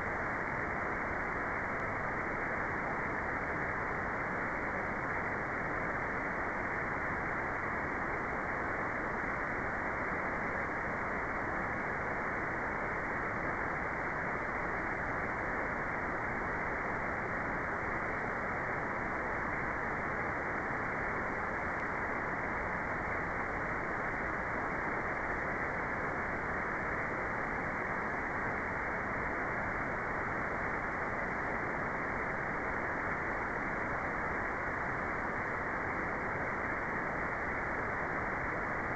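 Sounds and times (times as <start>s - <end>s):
muffled electronic white noise: 0.0s - 38.9s.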